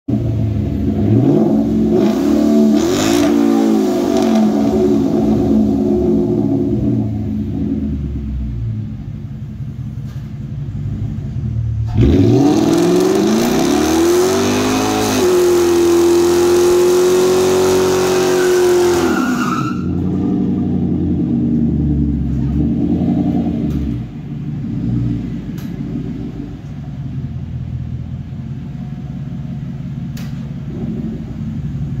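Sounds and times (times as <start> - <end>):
car engine idling and revving: 0.1 - 32.0.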